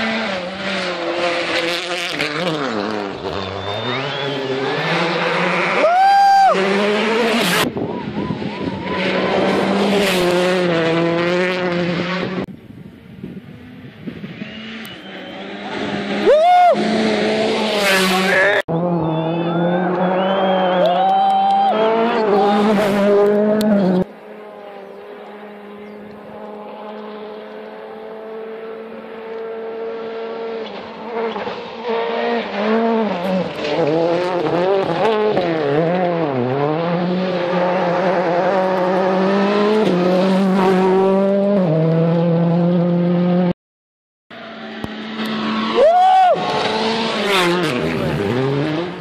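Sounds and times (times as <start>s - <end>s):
rally car engine revving: 0.0s - 12.5s, 13.4s - 43.5s, 44.3s - 49.0s.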